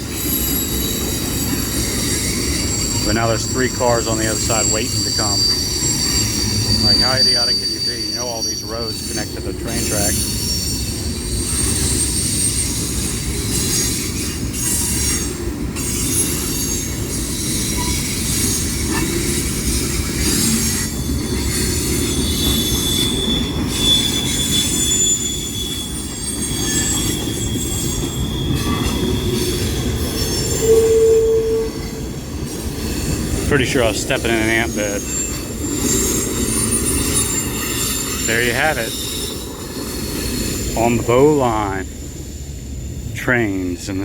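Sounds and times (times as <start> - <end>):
steel wheels squealing: 0.0 - 44.0
train wheels rumbling on rails: 0.0 - 44.0.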